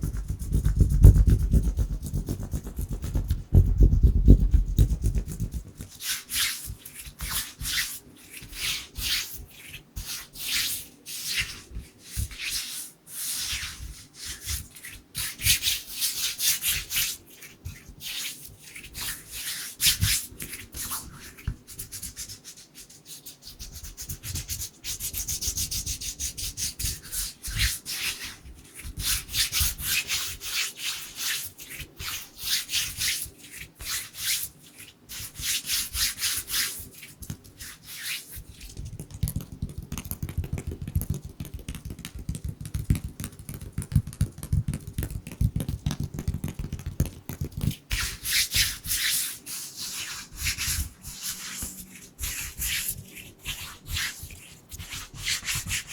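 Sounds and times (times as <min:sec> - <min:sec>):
hands rubbing together: 0:00.0 - 0:55.9.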